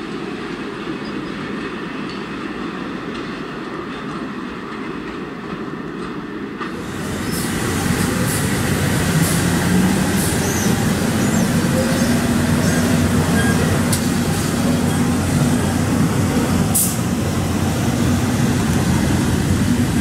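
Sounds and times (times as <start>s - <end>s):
distant freight train: 0.0s - 20.0s
electric locomotive motors humming: 0.0s - 20.0s
wheels rumbling on rail: 0.0s - 20.0s.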